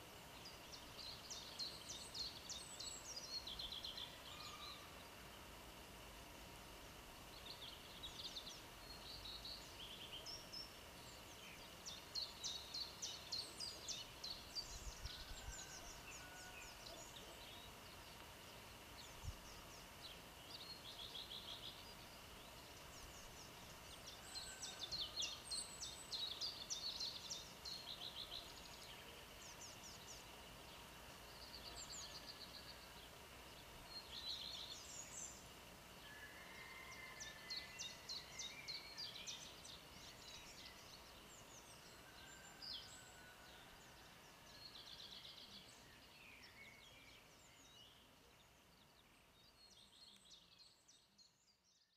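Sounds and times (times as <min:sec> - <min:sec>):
background hiss: 0:00.0 - 0:51.9
songbirds chirping and trilling: 0:00.0 - 0:51.9.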